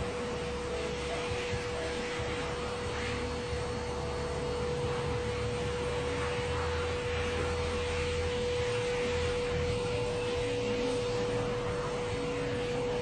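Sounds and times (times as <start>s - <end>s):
machine drone: 0.0s - 13.0s.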